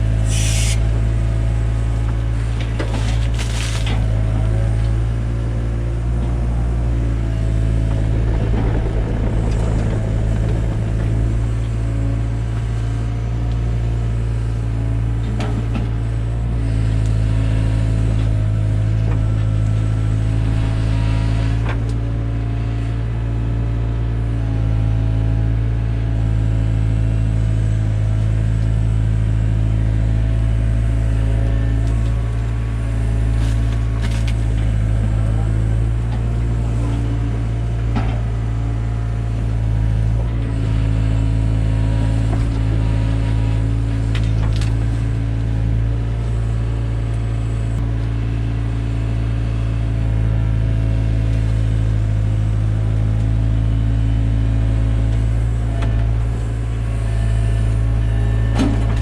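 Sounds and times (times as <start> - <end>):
excavator diesel engine digging: 0.0 - 24.6, 29.4 - 59.0.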